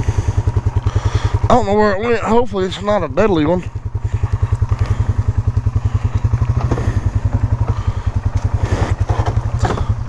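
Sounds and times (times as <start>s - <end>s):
atv engine chugging: 0.0s - 10.0s.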